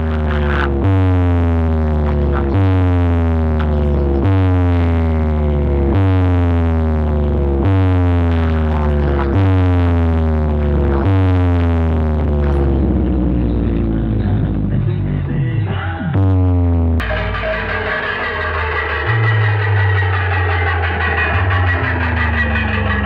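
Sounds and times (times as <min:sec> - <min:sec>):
falling synth tone: 0:00.0 - 0:15.2, 0:16.2 - 0:23.0
steady heavy bass: 0:00.0 - 0:23.0.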